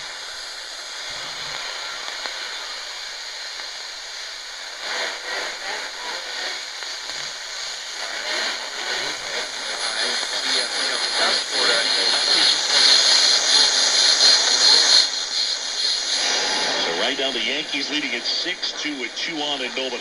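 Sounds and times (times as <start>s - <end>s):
radio static hiss: 0.0s - 20.0s
faint radio station: 1.0s - 20.0s.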